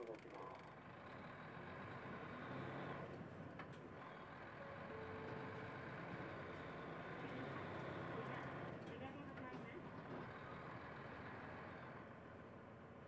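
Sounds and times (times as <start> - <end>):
bus diesel engine: 0.0 - 13.0.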